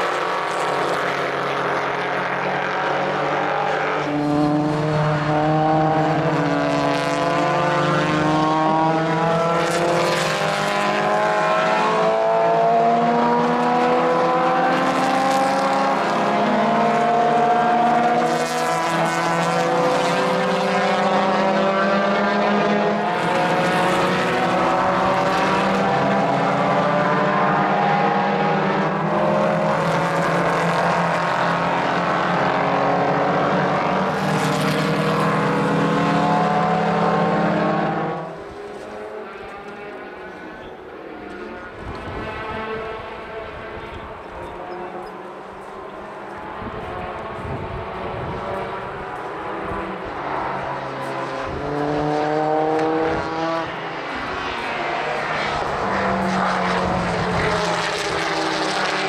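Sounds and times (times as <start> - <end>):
race car engines accelerating: 0.0 - 59.0.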